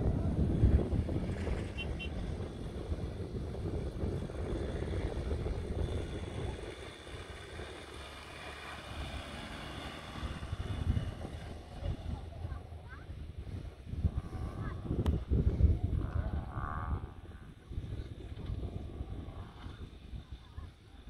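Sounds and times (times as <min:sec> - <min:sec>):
vehicle engine running: 0:00.0 - 0:21.0
wind rumbling on microphone: 0:00.0 - 0:21.0.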